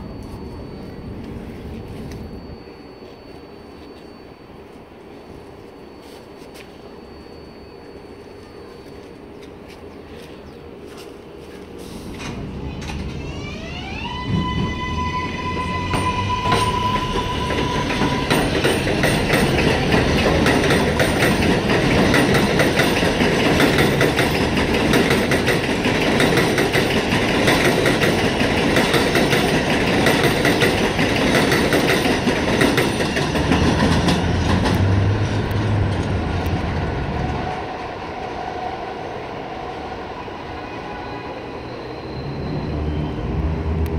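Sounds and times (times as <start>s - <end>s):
train propulsion whine: 0.0s - 43.9s
train cars rumbling over rails: 6.8s - 43.9s.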